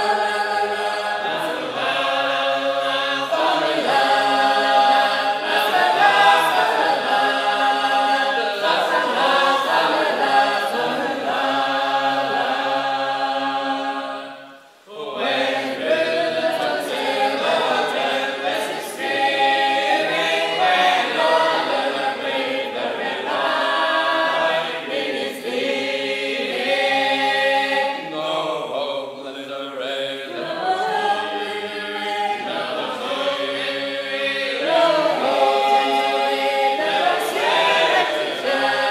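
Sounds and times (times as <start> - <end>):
choir singing a cappella: 0.0 - 38.9.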